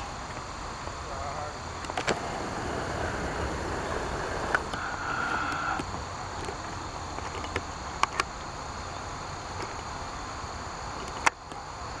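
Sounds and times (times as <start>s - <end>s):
high insect trilling: 1.0s - 11.3s.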